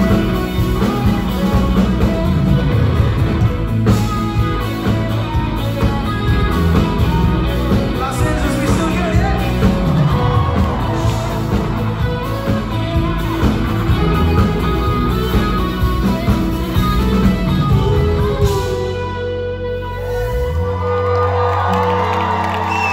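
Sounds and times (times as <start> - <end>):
bass guitar: 0.0 - 22.9
drums: 0.0 - 22.9
electric guitars: 0.0 - 22.9.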